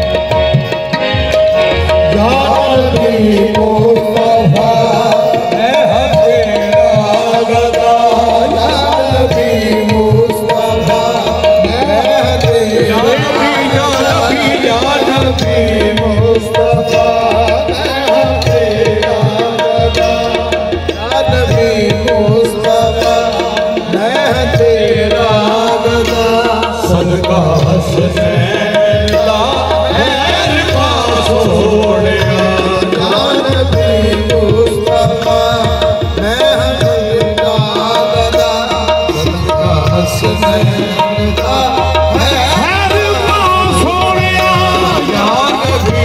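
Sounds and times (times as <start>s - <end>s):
tabla drumming: 0.0s - 46.0s.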